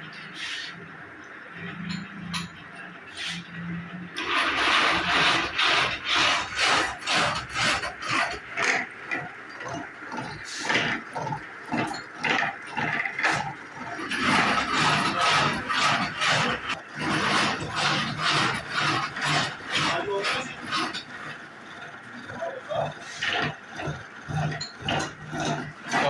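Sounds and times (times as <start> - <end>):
milling cutter scraping and chattering: 1.5 - 26.0.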